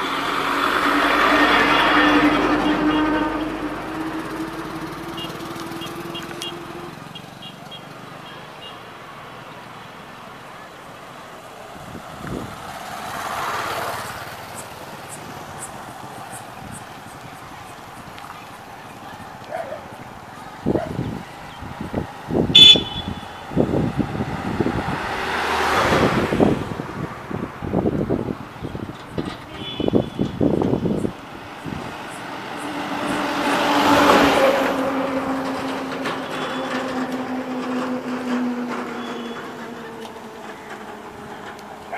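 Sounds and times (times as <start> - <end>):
motorcycle passing by: 0.0 - 8.6, 11.8 - 41.9
road traffic noise: 0.0 - 41.9
steady engine hum: 0.0 - 41.9.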